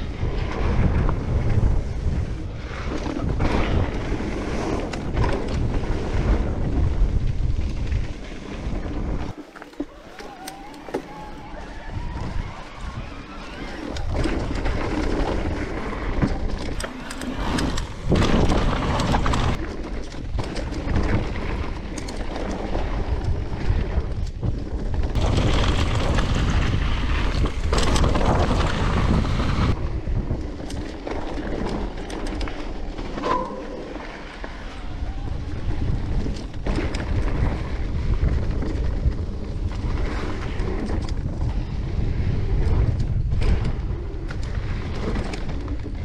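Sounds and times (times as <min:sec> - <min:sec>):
tyre and wind noise: 0:00.0 - 0:46.0.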